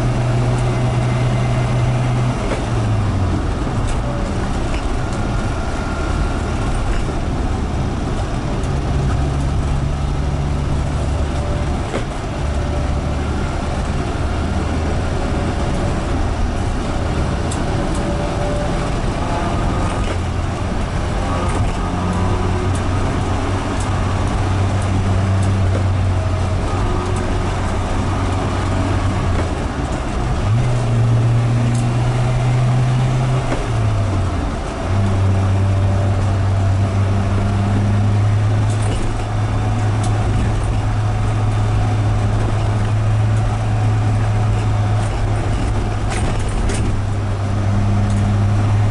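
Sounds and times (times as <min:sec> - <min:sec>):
road noise: 0:00.0 - 0:48.9
van engine: 0:00.0 - 0:48.9.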